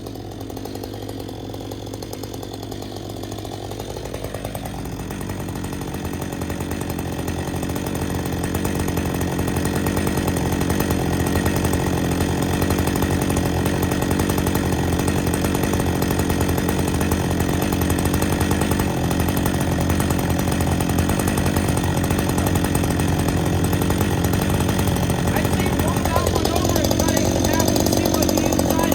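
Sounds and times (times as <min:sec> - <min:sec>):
chainsaw cutting wood: 0:00.0 - 0:28.9.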